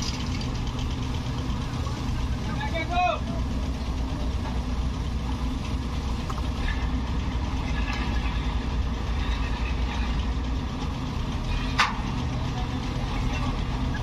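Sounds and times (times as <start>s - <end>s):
heavy engine idling: 0.0s - 14.0s.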